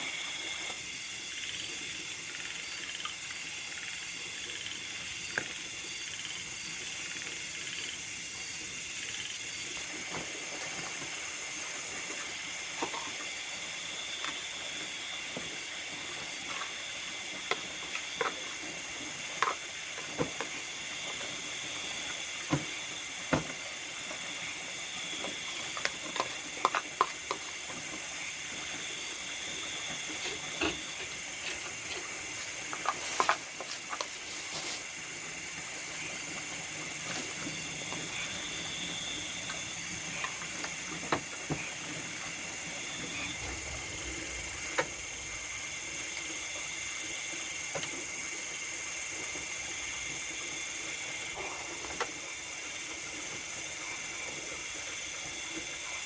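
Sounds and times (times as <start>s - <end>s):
insects chorus ringing: 0.0s - 56.0s.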